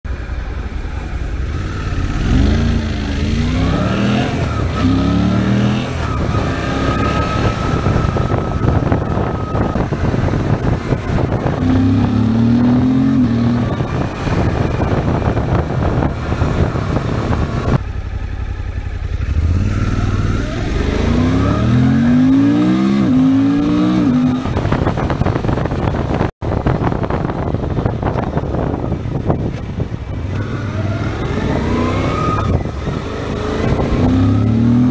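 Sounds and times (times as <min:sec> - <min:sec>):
motorcycle engine accelerating: 0:00.1 - 0:34.9
wind noise: 0:01.3 - 0:17.8, 0:19.4 - 0:34.9.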